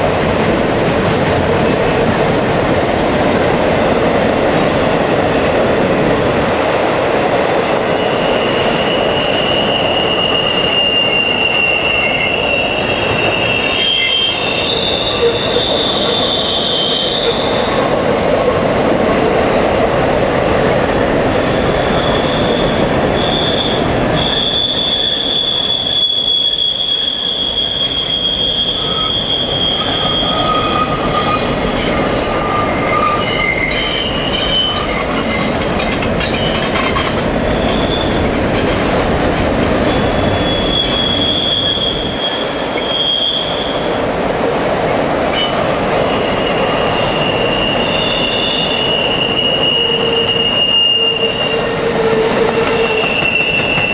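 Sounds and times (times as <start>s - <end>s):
freight train rumbling past: 0.0s - 53.9s
train wheel squeals: 1.4s - 3.2s, 4.6s - 6.0s, 7.9s - 17.9s, 21.4s - 38.9s, 39.8s - 44.0s, 45.4s - 53.9s.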